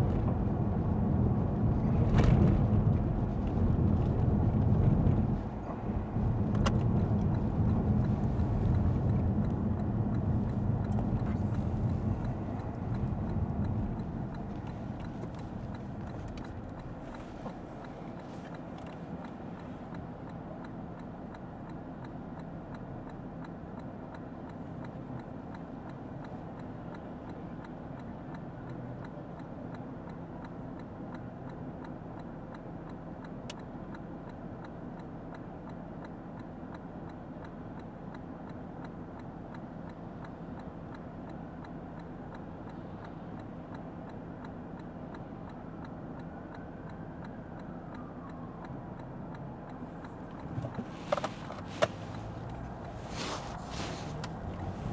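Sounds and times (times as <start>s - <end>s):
car cabin road hum: 0.0s - 54.9s
turn signal ticking: 0.0s - 54.9s.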